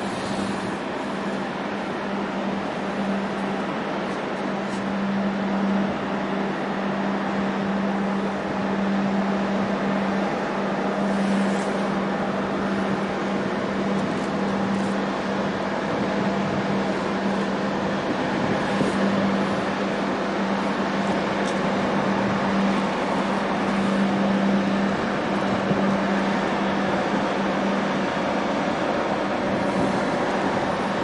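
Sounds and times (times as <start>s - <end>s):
even wash of noise: 0.0s - 31.0s
ship machinery drone: 0.0s - 31.0s.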